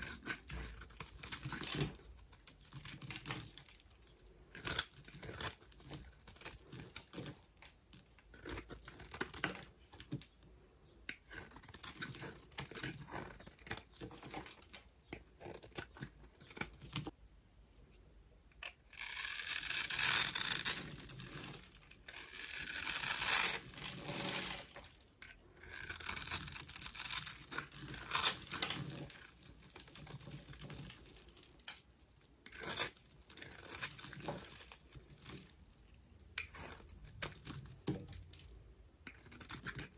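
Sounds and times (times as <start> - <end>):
knife carving soap crackling: 0.0 - 17.2, 17.8 - 39.9.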